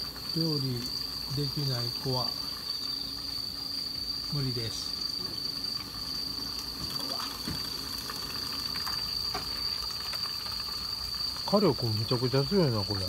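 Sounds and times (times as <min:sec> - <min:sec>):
gas stove burners hissing: 0:00.0 - 0:13.0
high insect trill: 0:00.0 - 0:13.0.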